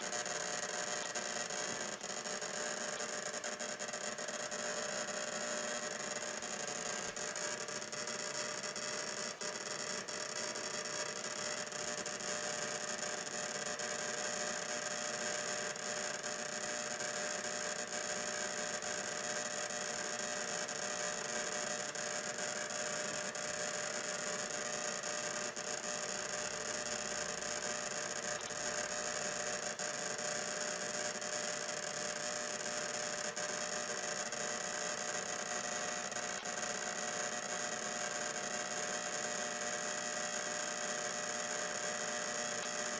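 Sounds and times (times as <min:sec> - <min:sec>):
electrical hum: 0:00.0 - 0:42.9.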